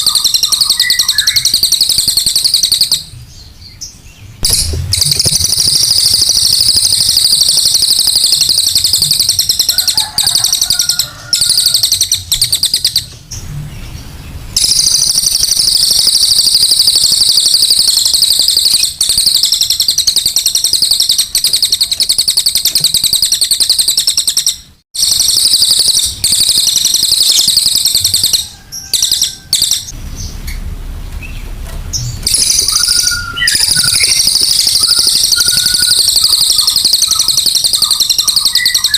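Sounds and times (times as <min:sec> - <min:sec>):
bird high trilling song: 0:00.0 - 0:30.6, 0:31.2 - 0:38.9.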